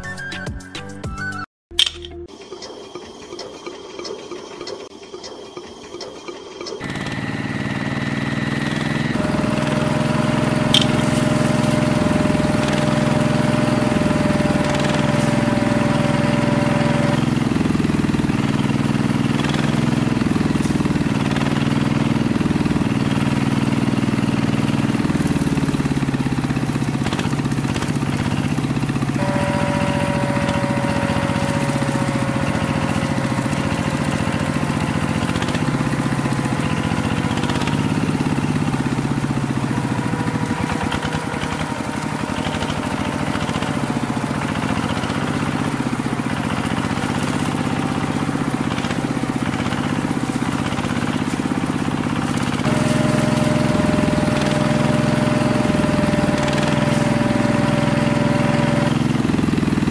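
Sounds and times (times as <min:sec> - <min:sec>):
small motor running: 0:02.7 - 0:59.9.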